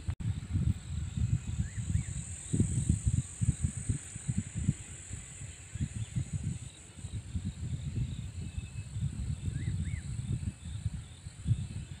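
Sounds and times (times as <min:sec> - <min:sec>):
wind buffeting the microphone: 0:00.0 - 0:12.0
high-pitched insect drone: 0:00.3 - 0:12.0.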